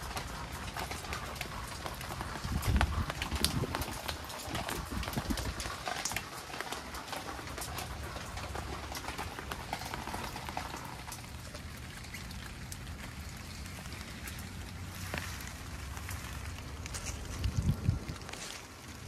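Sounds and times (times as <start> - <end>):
rain dripping clicks: 0.0 - 19.0.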